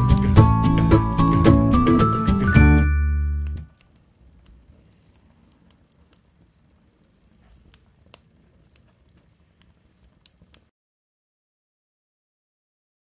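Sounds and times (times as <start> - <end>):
wood fire crackling and popping: 0.0 - 10.7.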